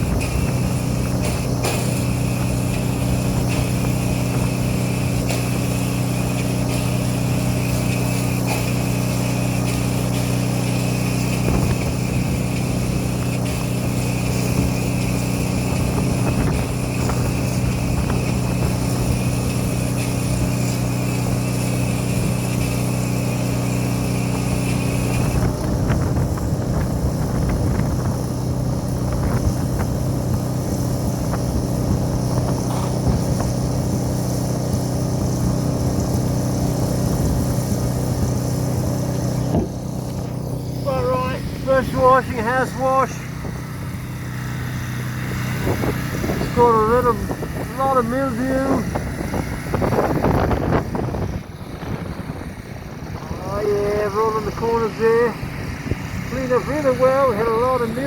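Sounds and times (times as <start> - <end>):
pressure washer engine running: 0.0 - 58.0.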